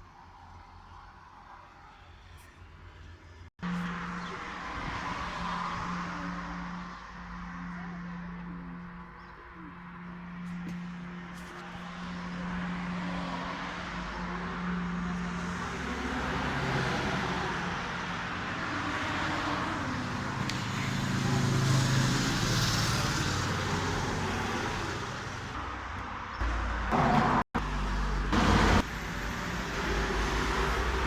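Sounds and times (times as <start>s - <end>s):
tyre and road noise: 0.0s - 31.0s.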